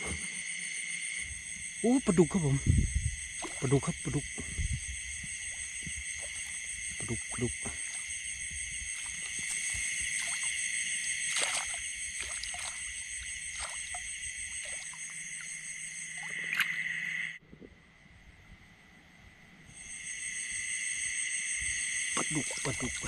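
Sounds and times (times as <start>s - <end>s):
frogs croaking: 0.0s - 17.4s, 19.6s - 23.0s
insects chirping: 0.0s - 23.0s.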